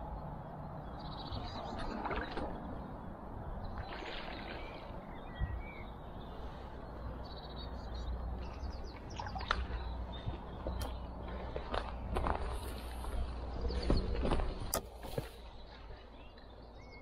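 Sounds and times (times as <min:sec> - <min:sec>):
faint birdsong chirps: 0:00.0 - 0:17.0
low outdoor rumble: 0:00.0 - 0:17.0.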